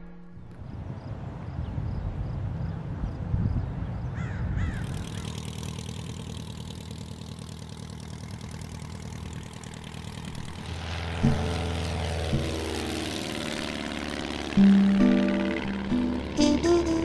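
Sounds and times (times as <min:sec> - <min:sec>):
propeller plane engine running: 0:00.0 - 0:17.0.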